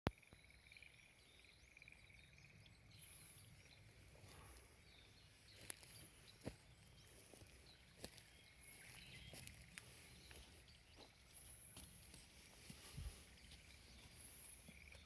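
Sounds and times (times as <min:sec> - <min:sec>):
faint bird chirps: 0:00.1 - 0:15.0.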